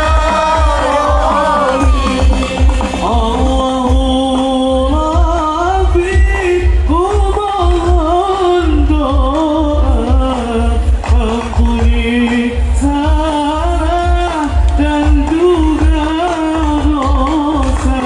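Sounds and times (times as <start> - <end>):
low drum beat: 0.0 - 18.0
person singing devotional song: 0.0 - 18.0.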